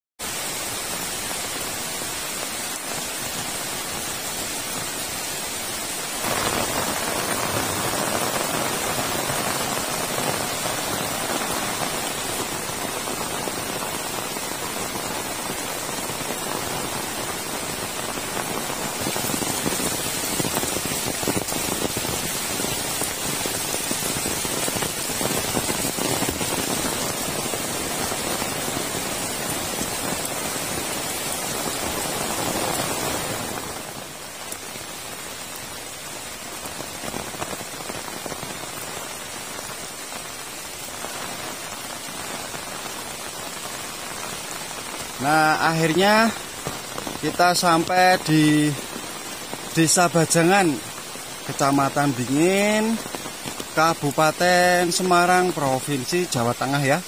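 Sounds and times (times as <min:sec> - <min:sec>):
heavy rain falling: 0:00.2 - 0:57.0.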